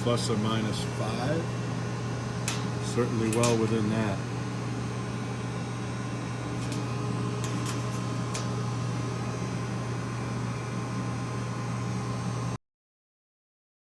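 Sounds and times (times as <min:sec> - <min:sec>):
low machine hum: 0:00.0 - 0:12.6.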